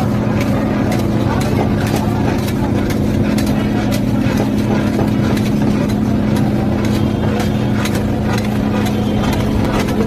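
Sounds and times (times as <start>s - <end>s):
loud low hum: 0.0s - 10.0s.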